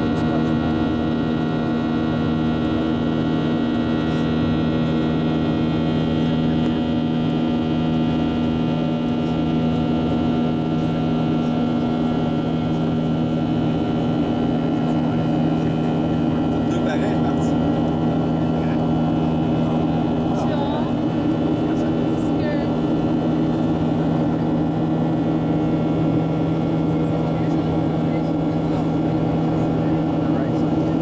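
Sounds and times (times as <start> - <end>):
jet engines droning: 0.0 - 31.0.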